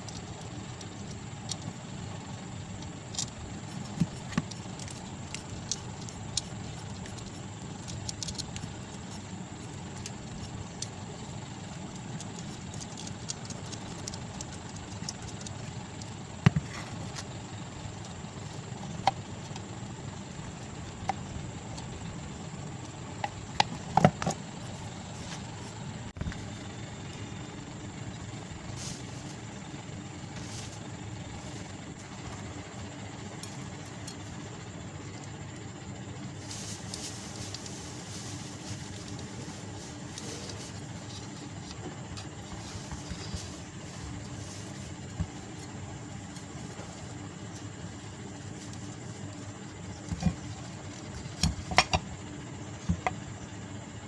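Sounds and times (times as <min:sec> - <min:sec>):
low background rumble: 0:00.0 - 0:54.0.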